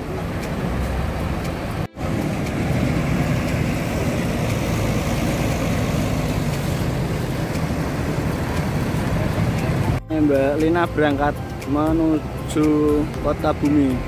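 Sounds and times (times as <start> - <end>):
bus diesel engine passing: 0.0 - 14.0.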